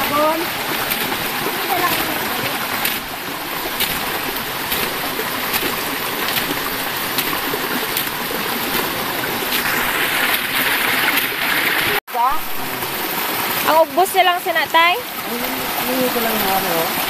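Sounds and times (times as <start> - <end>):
water rushing over rock: 0.0 - 17.0.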